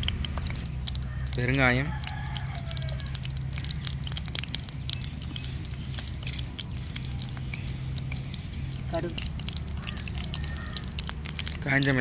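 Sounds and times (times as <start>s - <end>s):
mustard seeds popping in hot oil: 0.0s - 12.0s
steady low hum: 0.0s - 12.0s.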